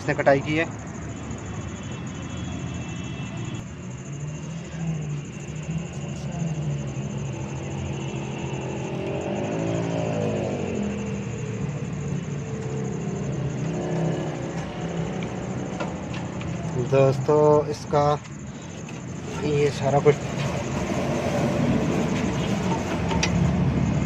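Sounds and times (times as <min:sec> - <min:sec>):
vehicle engine running: 0:03.7 - 0:24.0.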